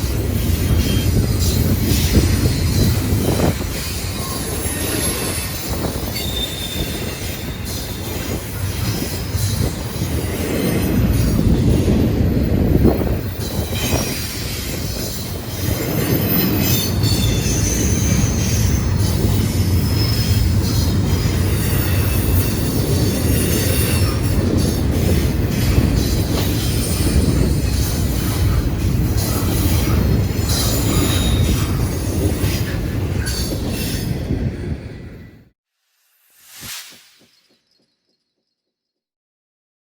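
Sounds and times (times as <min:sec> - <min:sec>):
steel wheels squealing on rail: 0:00.0 - 0:35.4
freight train rumbling: 0:00.0 - 0:35.5.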